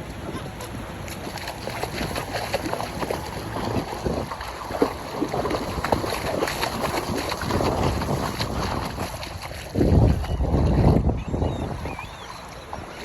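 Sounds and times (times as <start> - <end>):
waves washing on beach: 0.0 - 11.1
wind buffeting microphone: 0.0 - 13.0.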